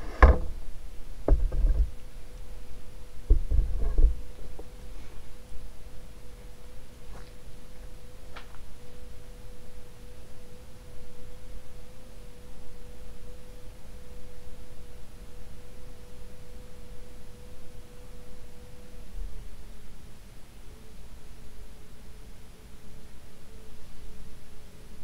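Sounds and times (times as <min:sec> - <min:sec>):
ceiling fan motor hum: 0:00.0 - 0:25.0.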